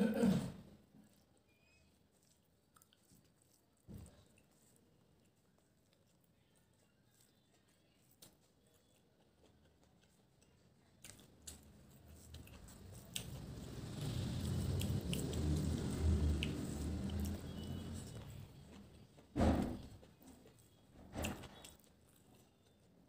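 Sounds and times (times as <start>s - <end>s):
chewing: 0.9s - 23.0s.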